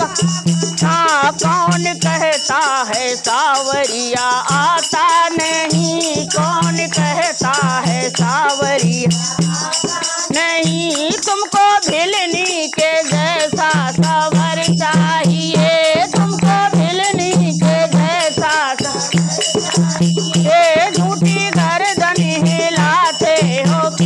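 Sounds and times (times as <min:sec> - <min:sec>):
hand-held shaker rattling: 0:00.0 - 0:24.0
women singing devotional song: 0:00.0 - 0:24.0.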